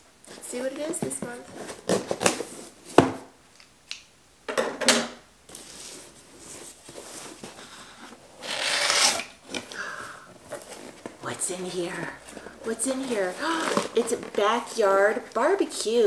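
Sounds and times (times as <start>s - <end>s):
cardboard and tape rustling: 0.2s - 3.3s, 5.5s - 16.0s
box scraping rustle: 0.3s - 3.0s, 5.5s - 16.0s.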